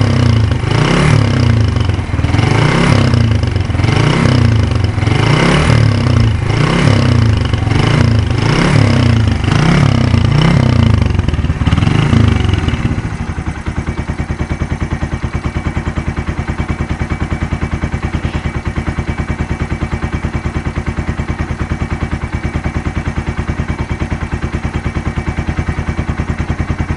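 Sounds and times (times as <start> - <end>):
motorcycle engine revving and idling: 0.0 - 26.9.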